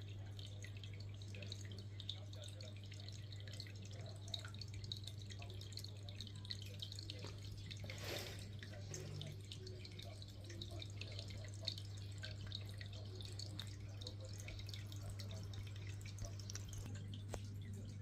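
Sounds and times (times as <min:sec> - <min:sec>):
steady low hum: 0:00.0 - 0:18.0
water trickling and dripping: 0:00.0 - 0:18.0.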